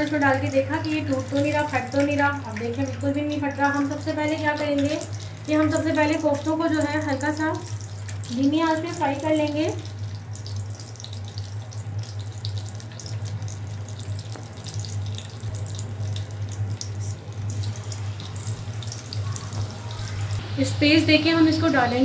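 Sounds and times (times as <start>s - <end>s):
constant low hum: 0.0s - 22.0s
food sizzling in oil: 0.0s - 22.0s.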